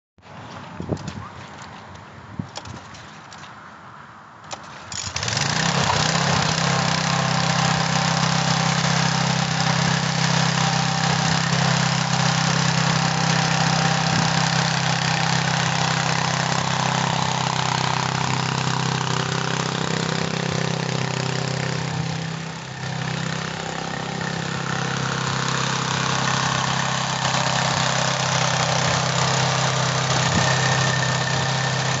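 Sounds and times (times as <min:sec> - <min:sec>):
small engine pull-start: 0:04.4 - 0:32.0
small engine running: 0:04.5 - 0:32.0.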